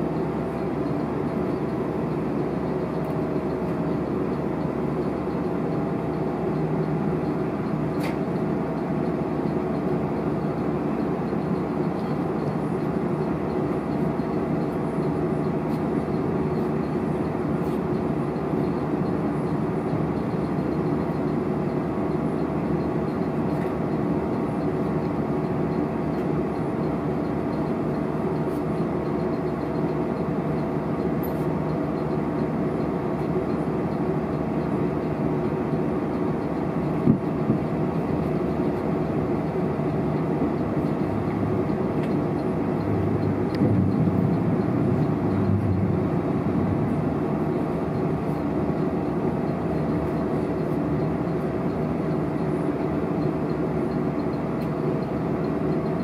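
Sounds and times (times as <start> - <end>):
train running noise: 0.0 - 56.0.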